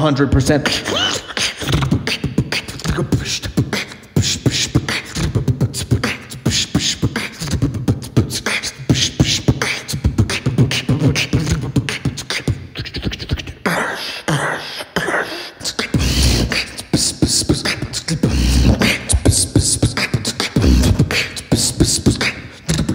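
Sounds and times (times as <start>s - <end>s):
beatboxing into a microphone: 0.0s - 22.9s.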